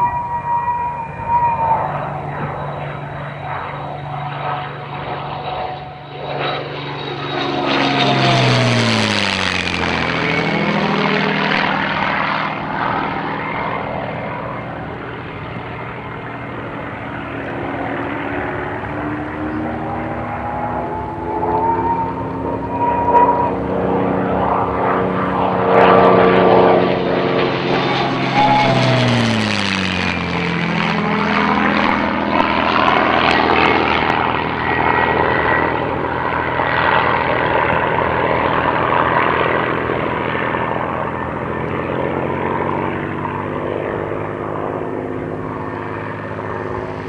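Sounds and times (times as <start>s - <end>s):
propeller plane engine flying past: 0.0s - 47.0s.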